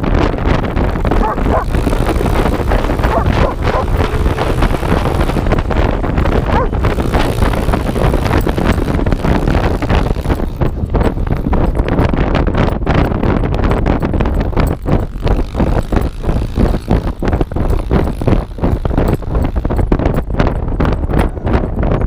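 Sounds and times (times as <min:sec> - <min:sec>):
dirt bike engine running: 0:00.0 - 0:22.0
wind buffeting microphone: 0:00.0 - 0:22.0.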